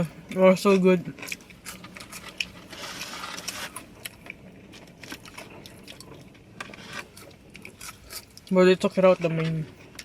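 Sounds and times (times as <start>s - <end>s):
food packaging rustling: 0.6s - 10.0s.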